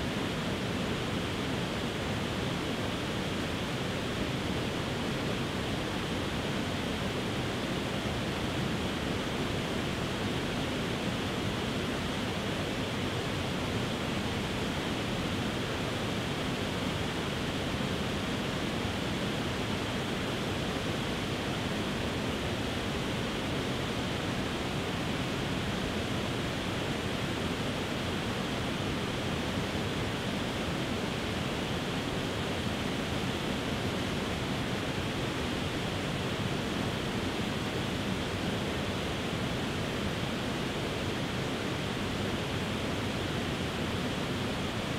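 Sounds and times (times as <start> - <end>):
waterfall rushing over rocks: 0.1 - 44.9.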